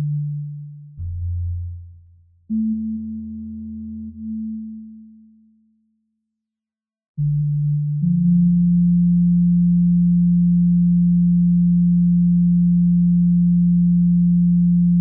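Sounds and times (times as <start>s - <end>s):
low electronic sine tone: 0.0s - 5.6s, 7.2s - 15.0s.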